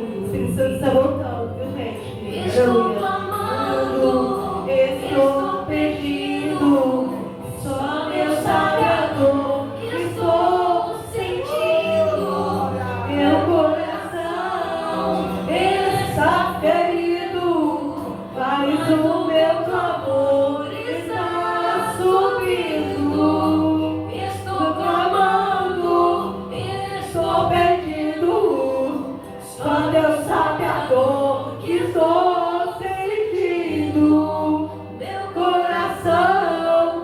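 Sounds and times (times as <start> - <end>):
group singing worship song: 0.0 - 37.0
low steady accompaniment: 0.0 - 37.0.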